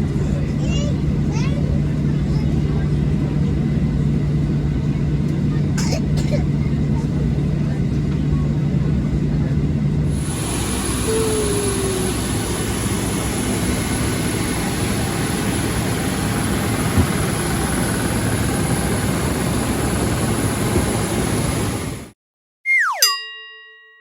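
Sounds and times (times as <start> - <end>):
jet engines idling in cabin: 0.0 - 22.1.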